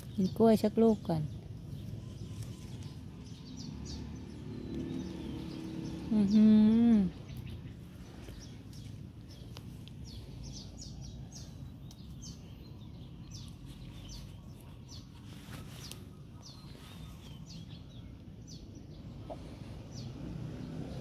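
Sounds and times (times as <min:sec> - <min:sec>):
small bird chirping: 0:00.0 - 0:21.0.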